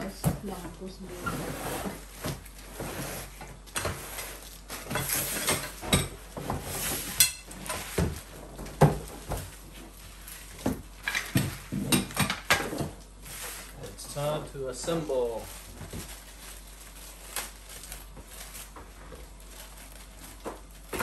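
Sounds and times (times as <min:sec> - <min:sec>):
cardboard and packaging rustling: 0:00.0 - 0:21.0.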